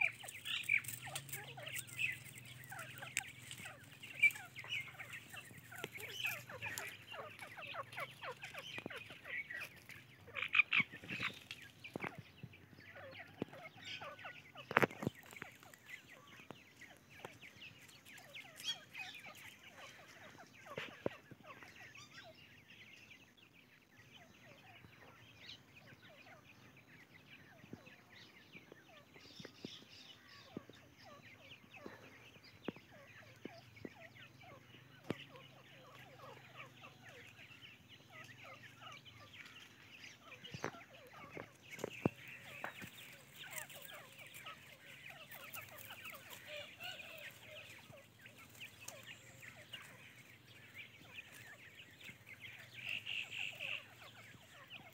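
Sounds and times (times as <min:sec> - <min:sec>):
chicks chirping and peeping: 0:00.0 - 0:54.9.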